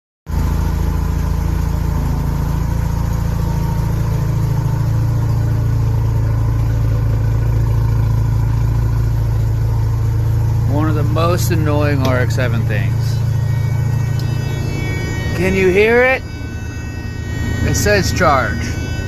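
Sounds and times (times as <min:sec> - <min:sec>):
rotary engine idling: 0:00.3 - 0:19.0.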